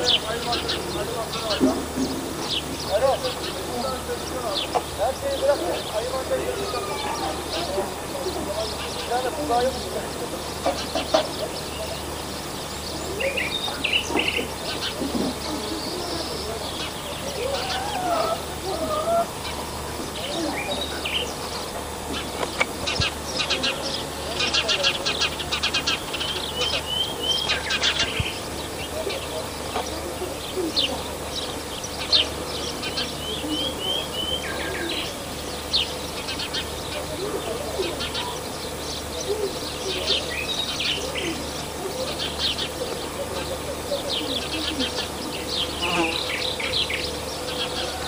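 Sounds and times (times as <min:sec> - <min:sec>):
outdoor background hiss and hum: 0:00.0 - 0:48.0
small birds chirping: 0:00.0 - 0:48.0.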